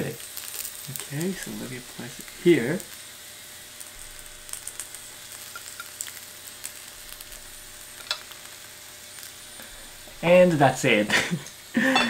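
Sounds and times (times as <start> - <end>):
dumplings sizzling in oil: 0.0 - 12.0.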